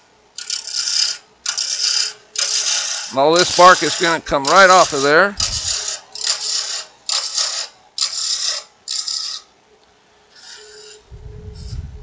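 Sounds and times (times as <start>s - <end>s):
lathe tool cutting wood: 0.4s - 9.4s, 10.3s - 11.0s.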